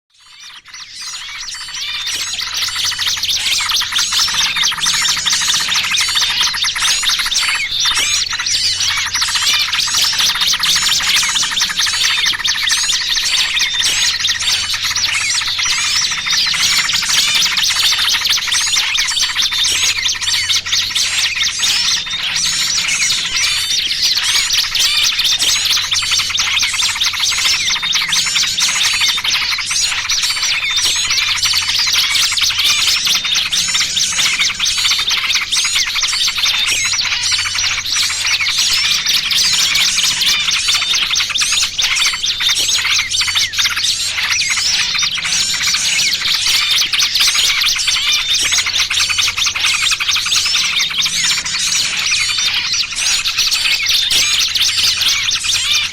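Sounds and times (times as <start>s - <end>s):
small bird distress calls: 0.1s - 55.9s
bulbul calls: 0.2s - 55.9s.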